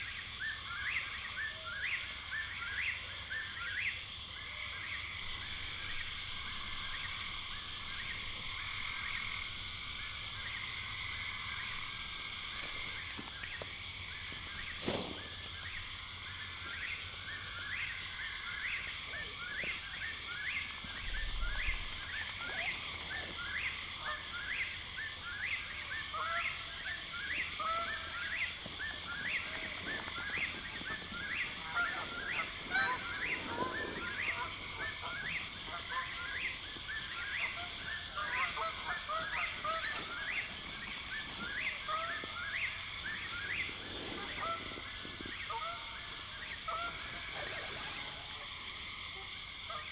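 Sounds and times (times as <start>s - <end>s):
trilling chorus of frogs or insects: 0.0s - 49.9s.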